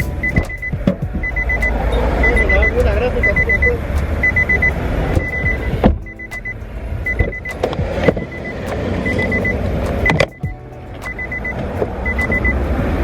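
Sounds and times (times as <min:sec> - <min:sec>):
short high electronic beeps: 0:00.0 - 0:12.7.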